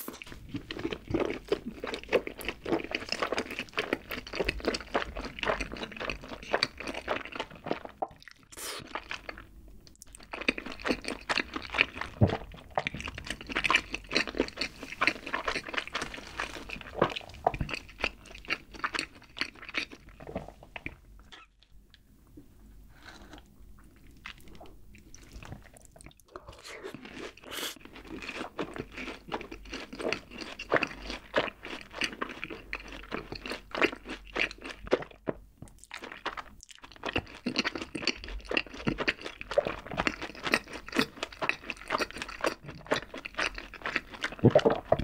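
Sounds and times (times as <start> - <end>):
wet chewing: 0.0 - 21.5, 22.9 - 45.0.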